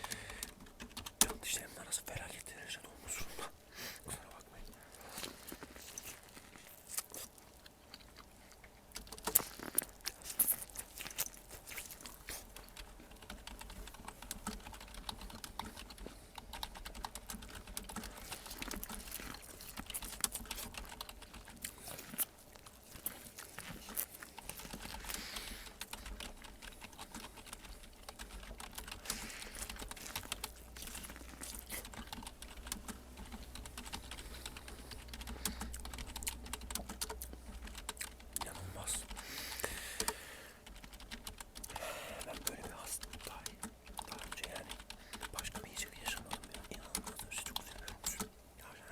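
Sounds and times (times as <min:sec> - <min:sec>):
computer keyboard typing: 0:00.0 - 0:02.7, 0:09.0 - 0:48.4.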